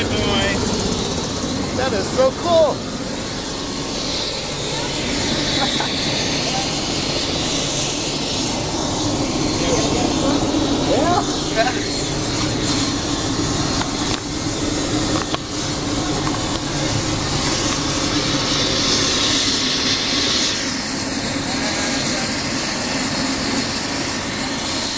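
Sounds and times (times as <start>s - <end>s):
hissing rush: 0.0s - 24.1s
jet engines droning: 0.0s - 24.9s.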